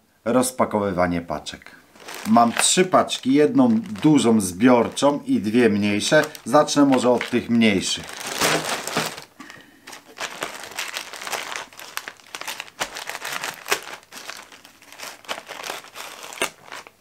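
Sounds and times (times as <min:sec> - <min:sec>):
plastic bag crinkling: 0:01.9 - 0:17.0.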